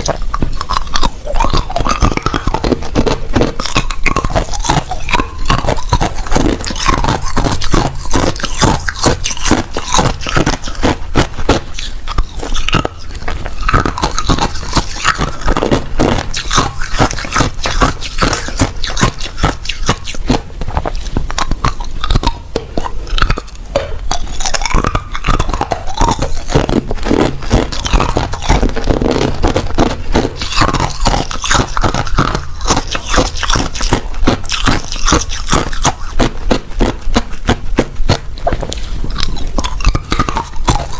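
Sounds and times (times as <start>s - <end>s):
crushed ice being chewed: 0.0s - 40.9s.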